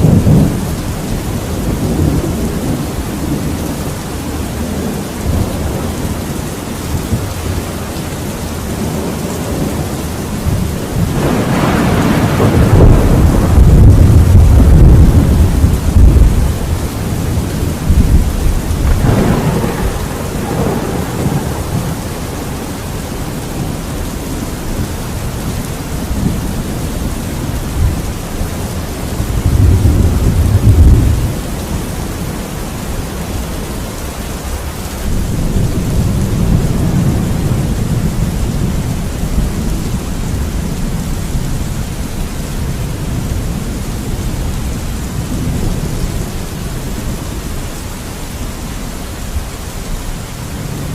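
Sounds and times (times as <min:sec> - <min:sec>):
heavy rain: 0:00.0 - 0:50.9
thunder rumbling: 0:00.0 - 0:50.9.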